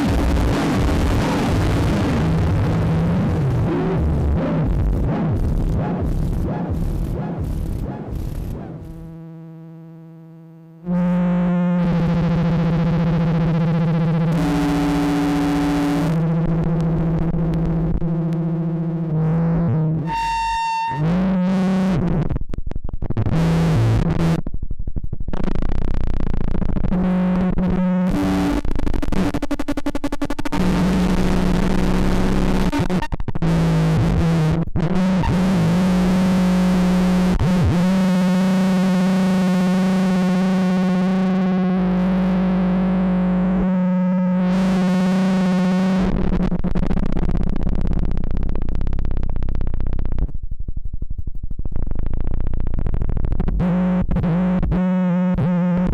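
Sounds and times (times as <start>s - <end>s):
distorted synthesizer drone: 0.0s - 22.3s, 25.3s - 50.4s, 51.6s - 55.9s.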